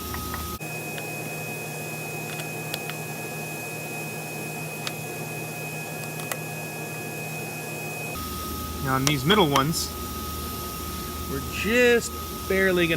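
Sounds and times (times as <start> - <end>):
electrical hum and hiss: 0.0 - 12.9
high-pitched whine: 0.0 - 12.9.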